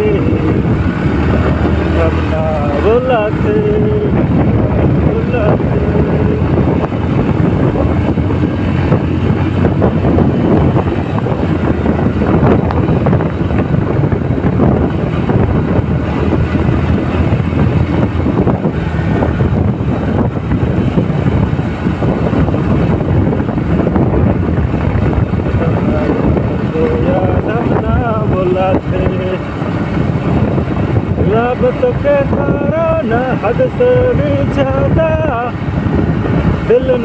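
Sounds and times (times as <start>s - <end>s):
motorbike engine and road noise: 0.0s - 37.0s
wind buffeting microphone: 0.0s - 37.0s.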